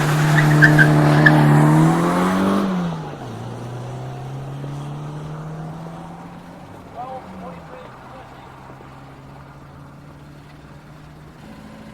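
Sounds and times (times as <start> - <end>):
rally car engine accelerating: 0.0 - 11.9.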